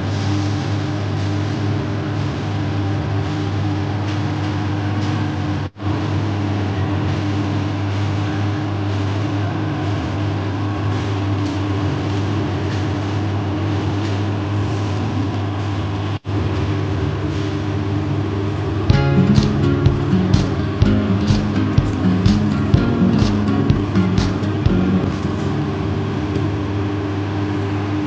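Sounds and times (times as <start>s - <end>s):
fan motor hum with hiss: 0.0s - 28.0s.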